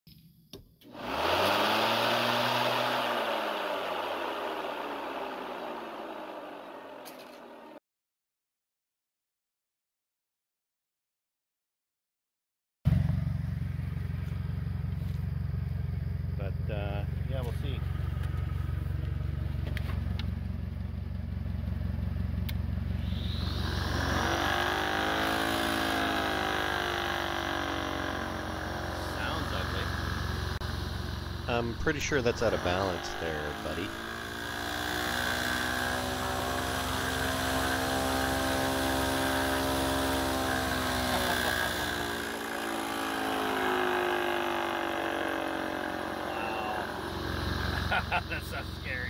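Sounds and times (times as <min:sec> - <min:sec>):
engine running: 0:00.8 - 0:07.8, 0:12.9 - 0:49.0.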